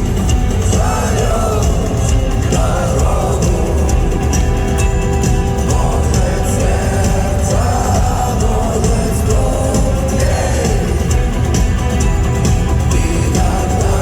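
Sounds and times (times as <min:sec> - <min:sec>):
heavy bass: 0:00.0 - 0:14.0
person singing: 0:00.0 - 0:14.0.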